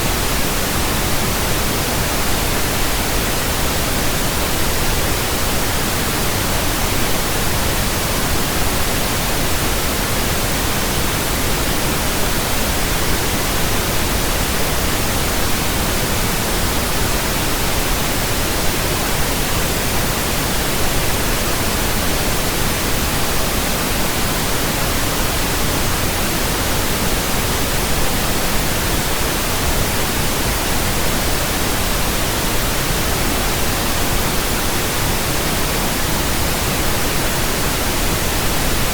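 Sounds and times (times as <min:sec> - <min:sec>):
steady pink noise hiss: 0:00.0 - 0:38.9.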